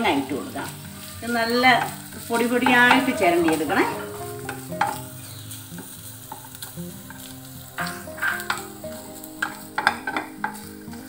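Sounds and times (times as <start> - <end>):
light sizzle of frying: 0.0 - 11.0
wooden spatula scraping pan: 0.6 - 11.0.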